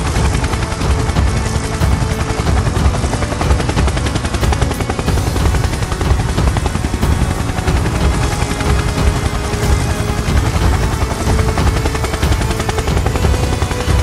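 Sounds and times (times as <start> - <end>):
helicopter flying: 0.0 - 14.0.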